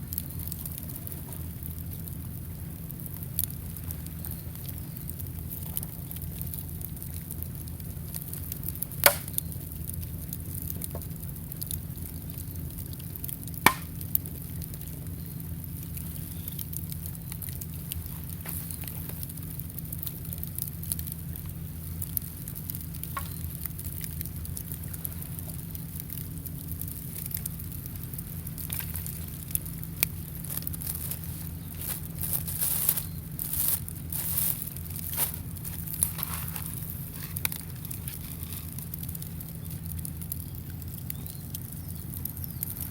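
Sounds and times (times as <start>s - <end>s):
fire popping: 0.0s - 42.9s
steady low rumble: 0.0s - 42.9s
wood fire crackling: 0.0s - 42.9s.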